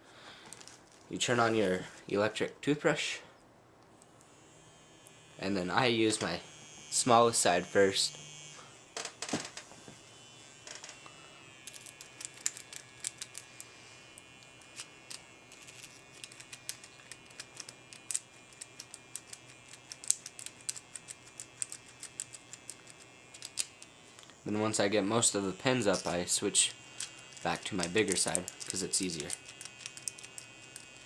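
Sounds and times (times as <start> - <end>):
electric toothbrush buzzing: 4.1 - 31.0.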